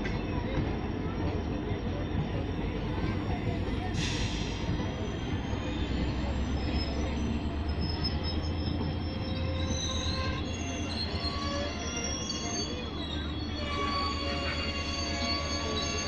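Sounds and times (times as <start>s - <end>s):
train rumble: 0.0s - 16.0s
train wheels squealing: 0.0s - 16.0s.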